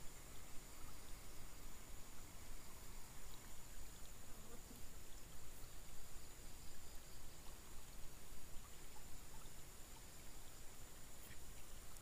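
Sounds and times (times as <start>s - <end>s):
slow-moving water hiss: 0.0s - 12.0s.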